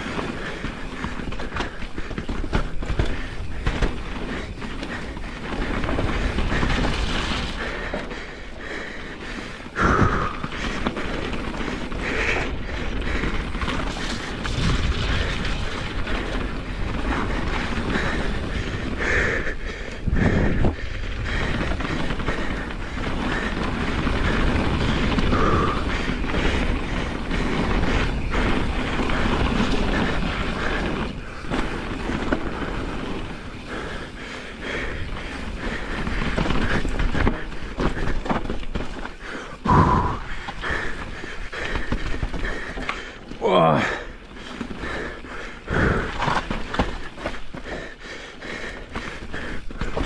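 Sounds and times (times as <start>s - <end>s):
bike frame rattling and knocking: 0.0s - 50.0s
bike tyres rolling on dirt: 0.0s - 50.0s.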